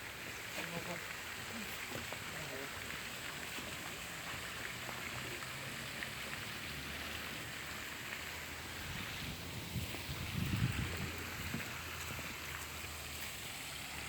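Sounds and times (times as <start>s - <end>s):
steady water hiss: 0.0s - 14.0s.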